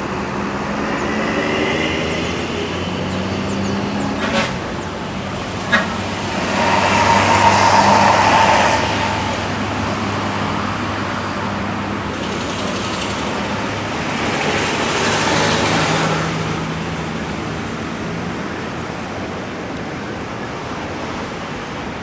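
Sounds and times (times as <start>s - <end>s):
heavy vehicles passing: 0.0s - 21.2s.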